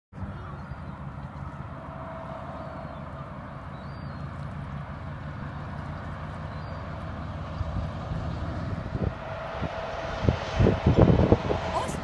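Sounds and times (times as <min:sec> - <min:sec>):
distant steam locomotive rumble: 0:00.2 - 0:12.0.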